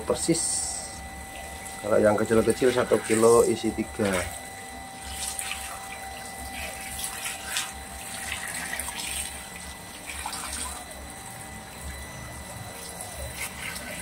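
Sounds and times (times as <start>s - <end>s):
hose water splashing on fish: 0.1s - 14.0s.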